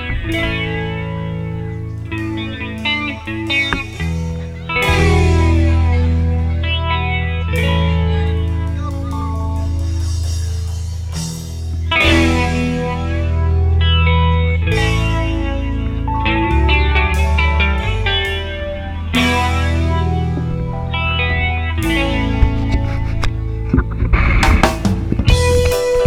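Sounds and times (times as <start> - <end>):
reggae music with guitar and bass: 0.0 - 26.0.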